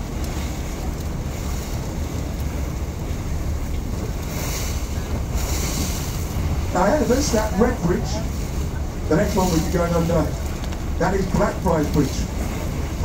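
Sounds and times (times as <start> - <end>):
boat engine rumble: 0.0 - 13.0
water noise: 0.0 - 13.0
wind buffeting microphone: 0.0 - 13.0.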